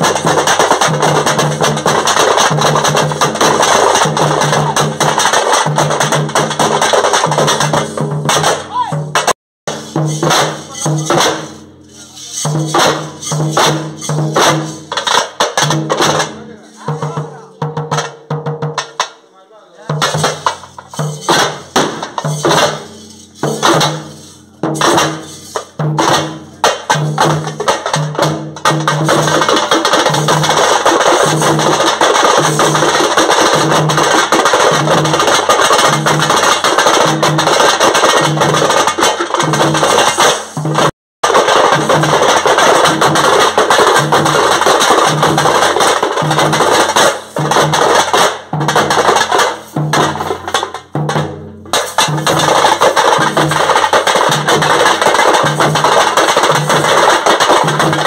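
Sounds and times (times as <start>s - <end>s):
frame drums beaten with sticks: 0.0s - 19.2s, 19.8s - 58.0s
low barrel drum beat: 0.0s - 19.2s, 19.8s - 58.0s.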